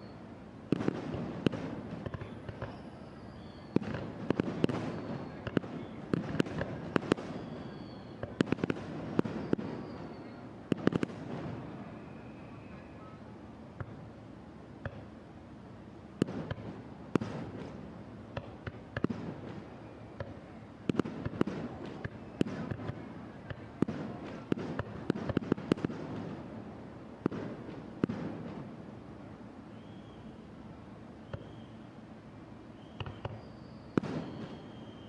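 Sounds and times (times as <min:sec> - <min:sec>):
fireworks bangs and crackles: 0:00.7 - 0:14.1, 0:14.8 - 0:15.2, 0:16.2 - 0:29.3, 0:32.9 - 0:35.0.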